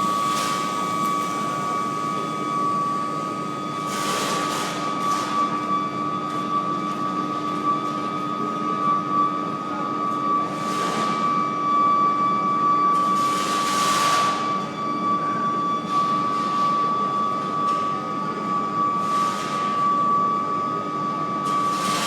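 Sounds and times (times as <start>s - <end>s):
induction furnace whine and hum: 0.0s - 22.0s.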